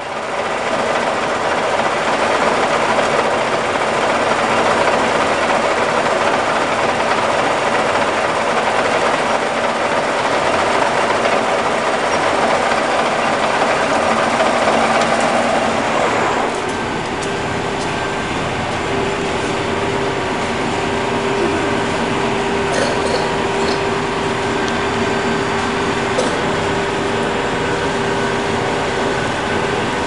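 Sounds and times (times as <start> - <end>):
lathe running with mechanical whir: 0.0 - 30.0.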